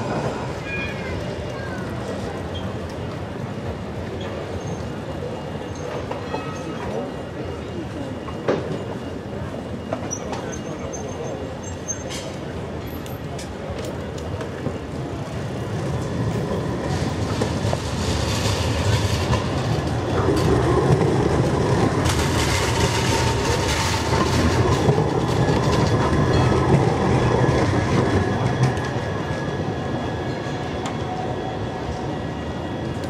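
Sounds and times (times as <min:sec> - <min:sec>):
tram wheels rumbling on rails: 0:00.0 - 0:33.0.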